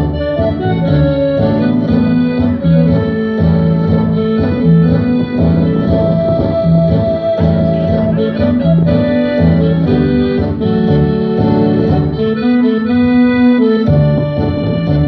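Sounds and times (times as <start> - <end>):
piano accordion: 0.0 - 15.0
repeating bass line: 0.0 - 15.0.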